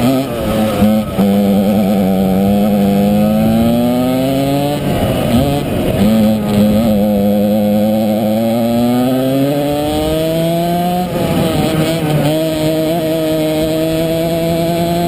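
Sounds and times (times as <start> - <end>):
kart engine at full throttle: 0.0 - 15.0.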